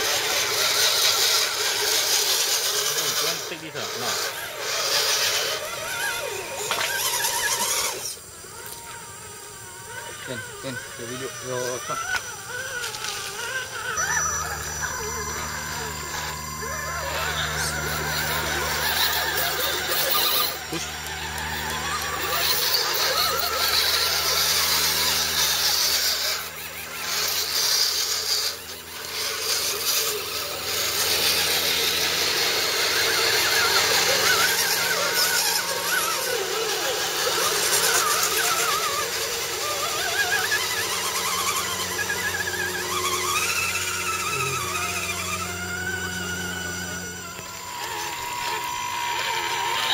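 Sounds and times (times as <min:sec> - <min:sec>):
rc truck motors whining: 0:00.0 - 0:49.9.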